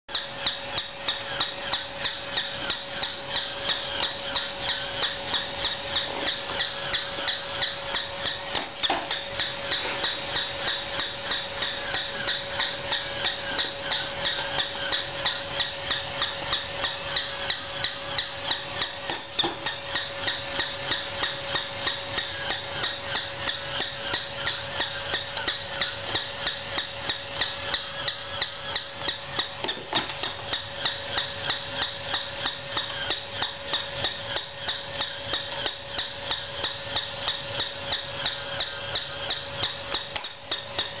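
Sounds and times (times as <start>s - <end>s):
toy gear motor whining and clicking: 0.1s - 41.0s.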